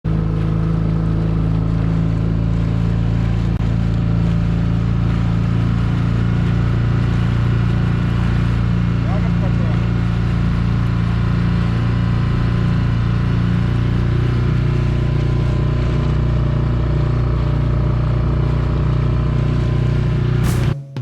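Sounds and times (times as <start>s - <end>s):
engine running steadily: 0.0s - 20.9s.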